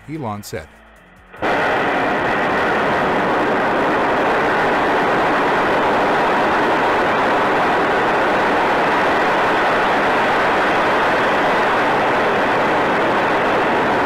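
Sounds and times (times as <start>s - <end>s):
rocket engines firing: 1.3s - 14.0s.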